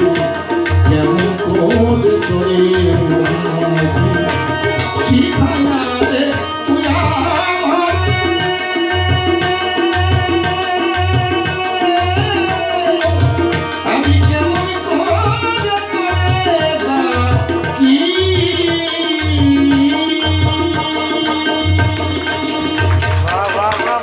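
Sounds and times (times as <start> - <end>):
harmonium chords: 0.0 - 24.0
man singing: 0.0 - 24.0
tabla drumming: 0.0 - 24.0.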